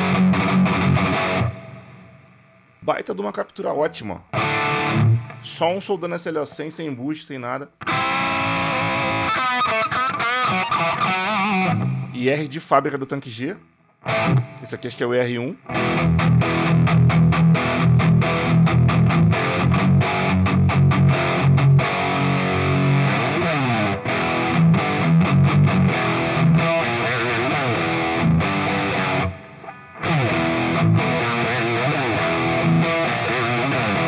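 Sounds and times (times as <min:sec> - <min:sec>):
distorted electric guitar: 0:00.0 - 0:02.9, 0:04.2 - 0:07.0, 0:07.8 - 0:12.4, 0:14.0 - 0:34.0.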